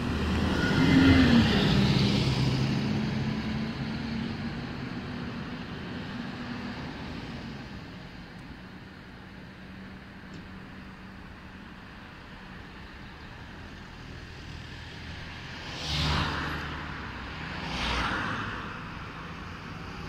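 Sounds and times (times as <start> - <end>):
traffic hum: 0.0 - 20.0
vehicles passing close: 0.0 - 20.0.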